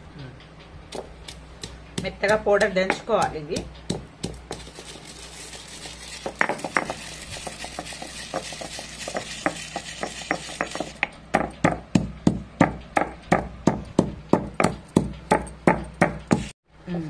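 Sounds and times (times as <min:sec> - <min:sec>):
stone pestle pounding seeds: 0:00.9 - 0:16.6.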